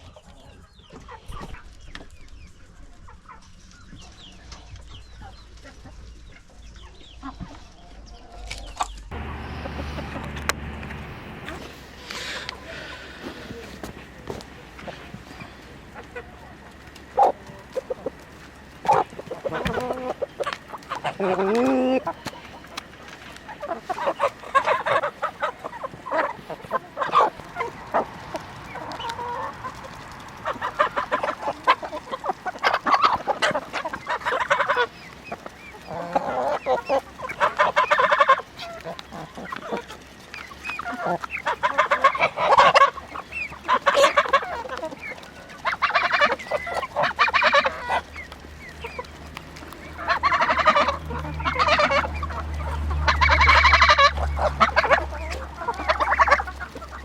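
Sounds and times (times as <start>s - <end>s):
chickens clucking: 0.0s - 57.0s
low steady hum: 1.5s - 57.0s.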